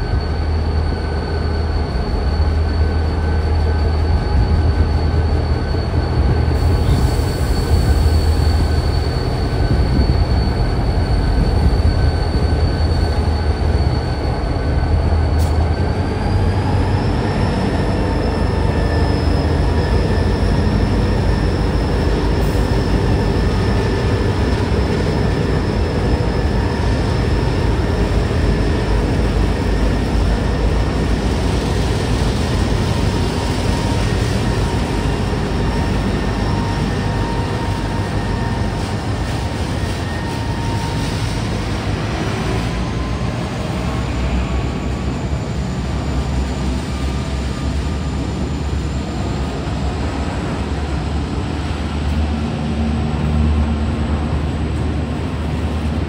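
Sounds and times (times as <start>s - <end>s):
thin drawn-out squeals: 0.0s - 53.7s
diesel locomotive rumble: 0.0s - 56.0s.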